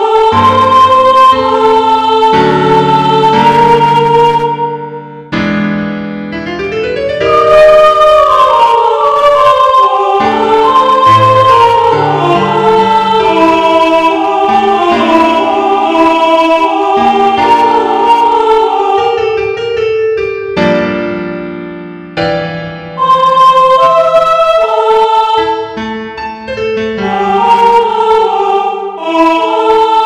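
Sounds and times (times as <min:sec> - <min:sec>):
choir-like voices holding chords: 0:00.0 - 0:30.0
keyboard music: 0:00.0 - 0:30.0.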